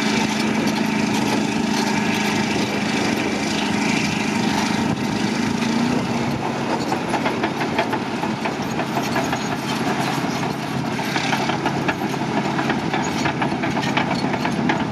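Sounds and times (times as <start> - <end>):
bulldozer diesel engine running: 0.0 - 14.9
rapid clicking clatter: 0.0 - 14.9.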